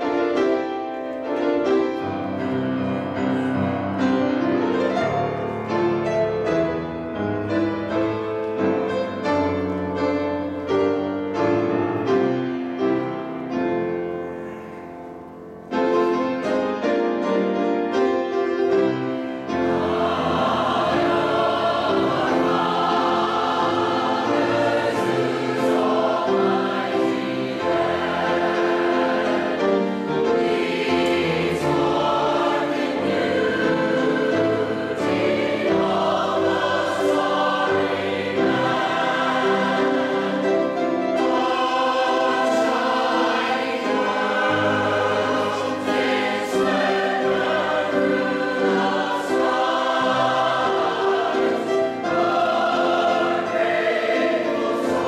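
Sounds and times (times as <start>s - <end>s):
church choir singing: 0.0s - 55.0s
piano accompaniment: 0.0s - 55.0s.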